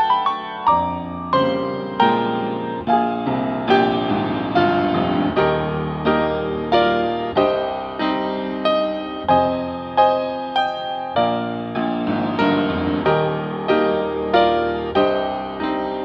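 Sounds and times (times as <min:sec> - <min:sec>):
slow piano chords ringing: 0:00.0 - 0:16.0.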